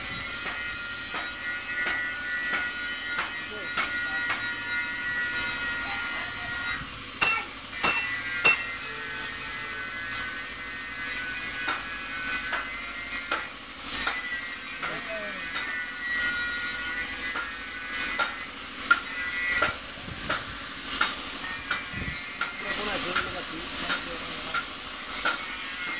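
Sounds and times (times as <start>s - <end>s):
high whine of air: 0.0s - 25.9s.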